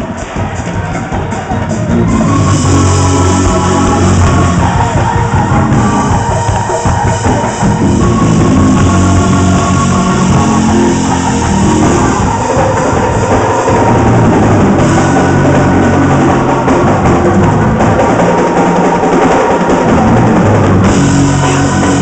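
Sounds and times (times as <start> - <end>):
drum kit playing hard: 0.0 - 22.0
sustained low instrumental tones: 1.4 - 22.0.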